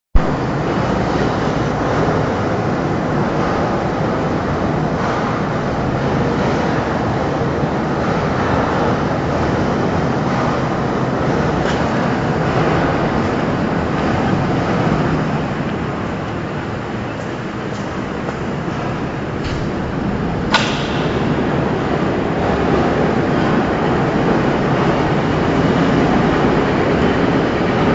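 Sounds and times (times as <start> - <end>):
low hum: 0.2 - 27.9
overhead crane rumbling: 0.2 - 27.9.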